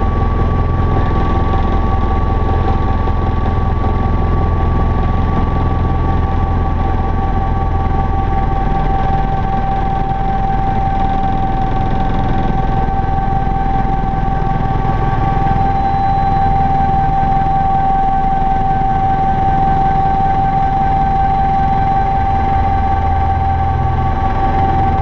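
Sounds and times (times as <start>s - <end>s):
helicopter rotor and engine drone: 0.0s - 25.0s
high-pitched whining tones: 0.0s - 25.0s.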